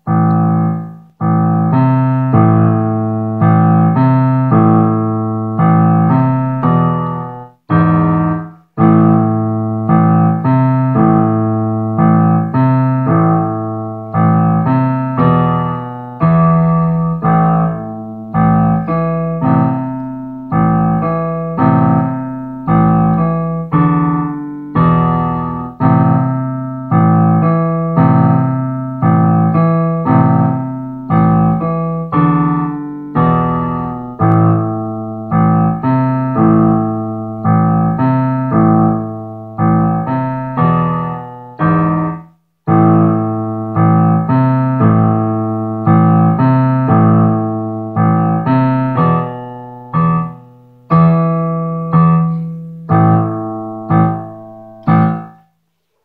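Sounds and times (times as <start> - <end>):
piano chords: 0.0 - 55.7.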